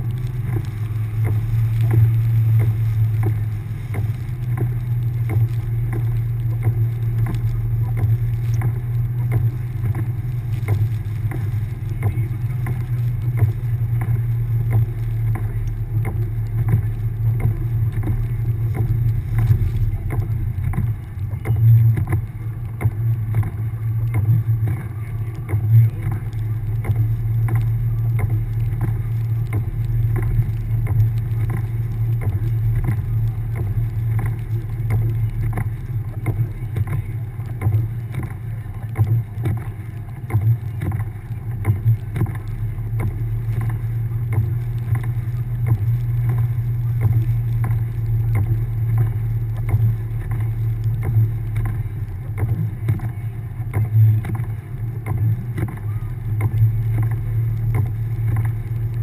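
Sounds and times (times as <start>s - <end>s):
car engine driving through snow: 0.0s - 59.0s.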